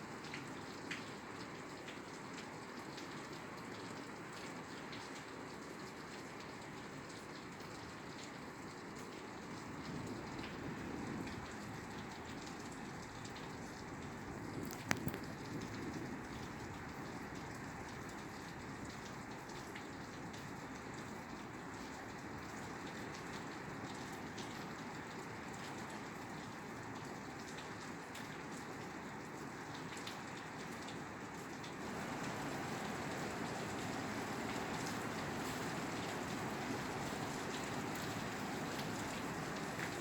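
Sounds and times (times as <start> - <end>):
rain on a roof: 0.0 - 40.0.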